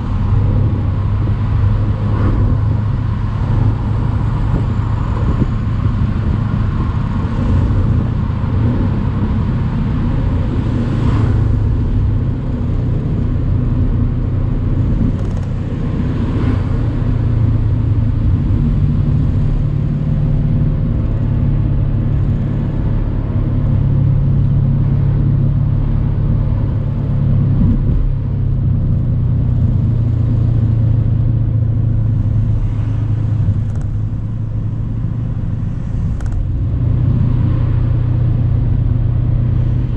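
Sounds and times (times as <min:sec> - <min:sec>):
car engine cruising: 0:00.0 - 0:39.9
tyre and road noise: 0:00.0 - 0:39.9.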